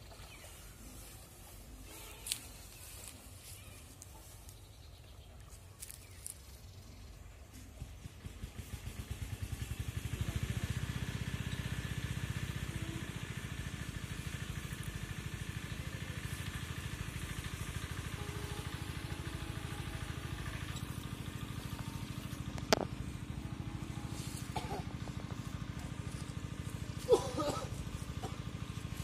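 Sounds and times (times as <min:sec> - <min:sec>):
small engine chugging: 0:00.0 - 0:29.0.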